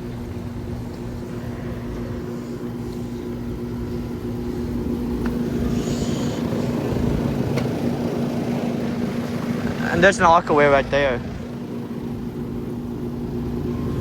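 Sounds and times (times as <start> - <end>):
compressor hum: 0.0 - 14.0
condenser fan rushing: 0.0 - 14.0.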